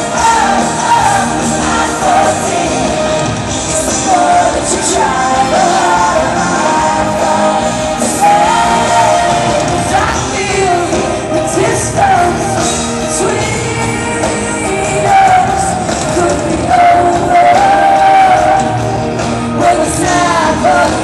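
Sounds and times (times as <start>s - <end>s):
woman singing: 0.0s - 18.9s, 19.5s - 21.0s
rock band playing: 0.0s - 21.0s.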